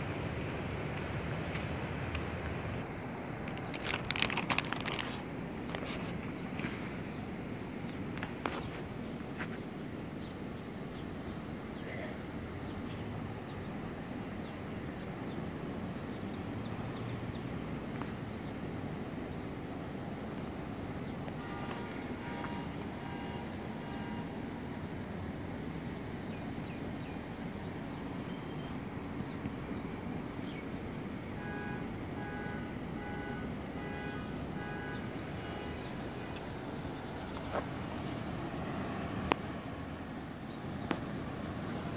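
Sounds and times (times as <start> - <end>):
distant city traffic hum: 0.0 - 41.9.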